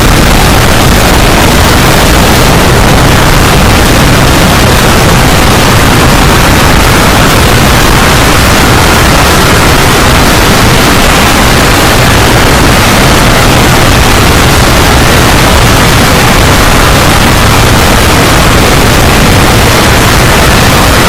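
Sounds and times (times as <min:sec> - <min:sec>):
distorted explosion and fire: 0:00.0 - 0:21.0.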